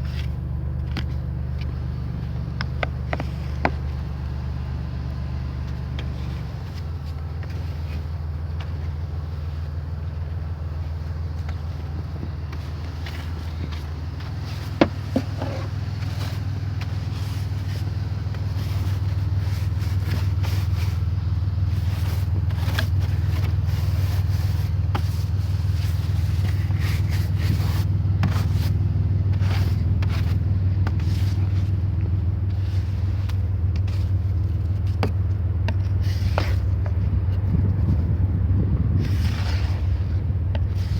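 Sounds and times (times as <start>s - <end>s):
snow scraped and brushed off car: 0.0s - 38.2s, 38.8s - 40.9s
car engine idling: 0.0s - 40.9s.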